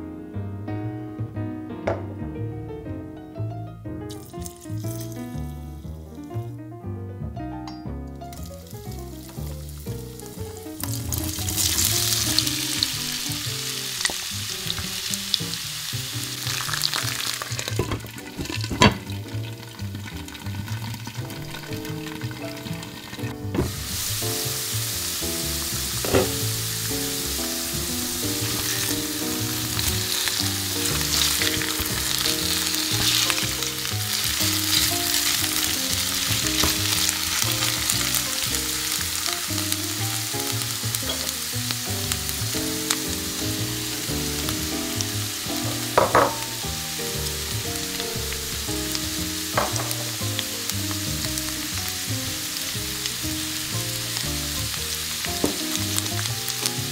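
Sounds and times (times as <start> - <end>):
potatoes sizzling in frying pan: 4.1 - 6.4, 8.3 - 56.9.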